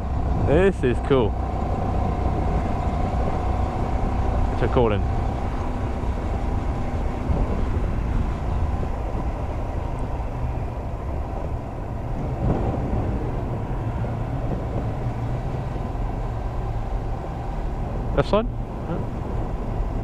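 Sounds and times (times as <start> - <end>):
low engine rumble: 0.0 - 20.0
noisy rush: 0.0 - 20.0.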